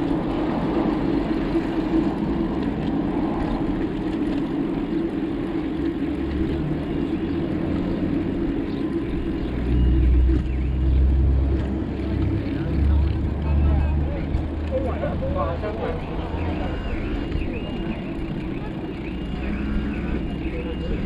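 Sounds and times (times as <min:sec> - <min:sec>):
road traffic noise: 0:00.0 - 0:21.0
wind rumble on microphone: 0:00.0 - 0:21.0.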